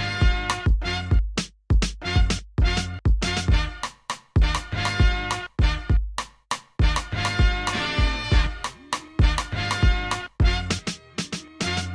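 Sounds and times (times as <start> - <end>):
upbeat music with bass: 0.0 - 11.9.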